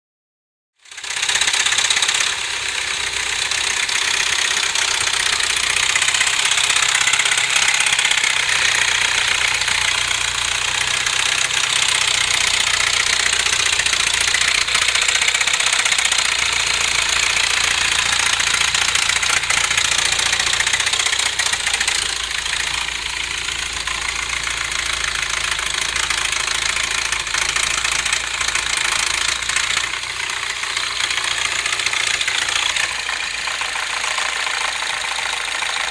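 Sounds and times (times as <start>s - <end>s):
car engine idling: 0.8s - 35.9s
rapid engine tapping clatter: 0.8s - 35.9s.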